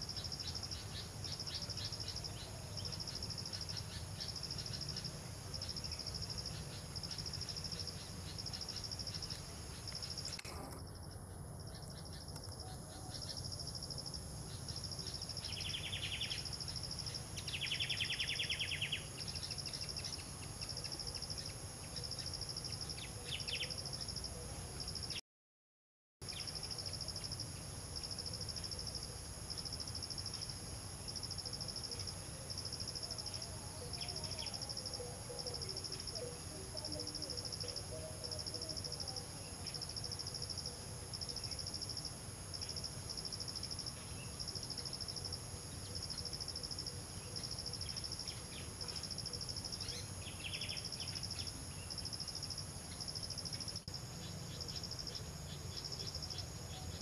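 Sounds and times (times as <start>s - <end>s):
insects chirping trill: 0.0s - 25.2s, 26.2s - 57.0s.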